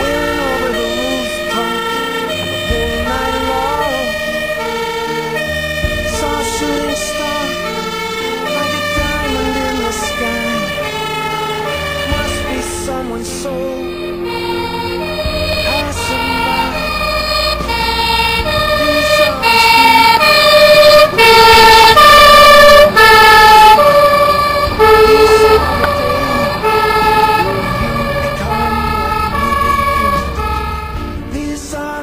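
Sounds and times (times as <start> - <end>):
fire engine two-tone siren: 0.0 - 31.3
truck engine rumbling: 0.0 - 32.0.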